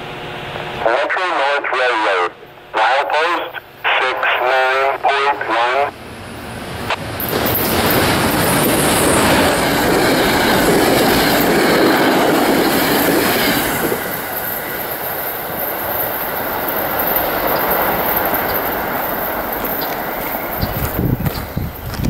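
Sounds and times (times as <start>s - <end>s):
diesel locomotive engine: 0.0s - 22.0s
train rolling noise: 2.4s - 22.0s.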